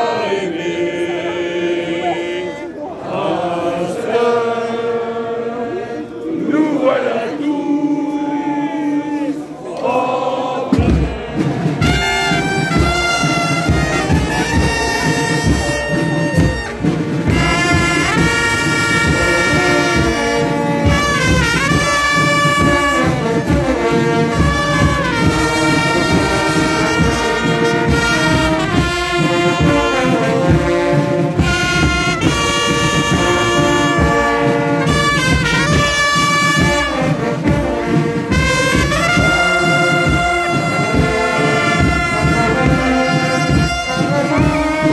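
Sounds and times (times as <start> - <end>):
brass band playing: 0.0 - 44.9.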